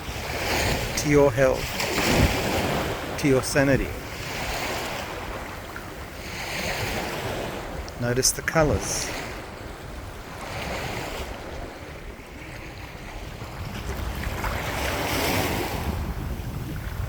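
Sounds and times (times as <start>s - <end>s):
small waves washing: 0.0s - 17.0s
wind rumbling on microphone: 0.0s - 17.0s.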